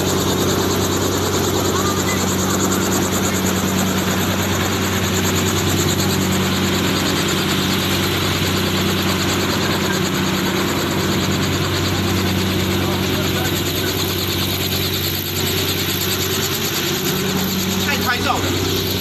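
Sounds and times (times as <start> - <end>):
helicopter engine and rotors: 0.0 - 19.0.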